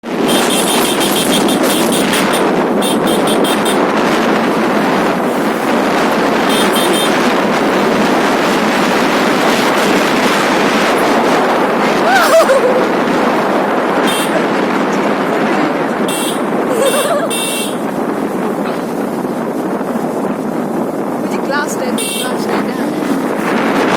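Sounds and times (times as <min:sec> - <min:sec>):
motorcycle road noise: 0:00.0 - 0:23.9
wind rush: 0:00.0 - 0:23.9.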